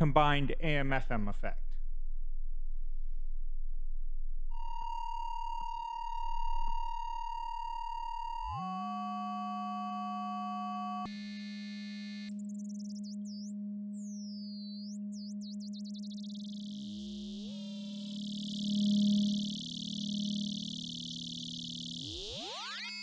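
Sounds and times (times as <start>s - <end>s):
synthesizer tone: 4.6s - 23.0s.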